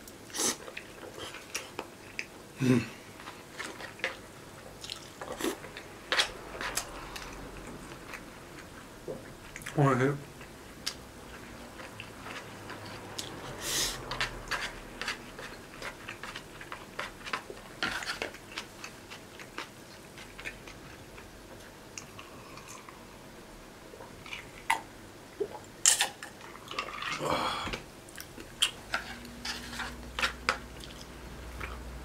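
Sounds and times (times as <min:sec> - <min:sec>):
person chewing: 0:00.2 - 0:09.7, 0:10.4 - 0:23.1, 0:23.9 - 0:31.9.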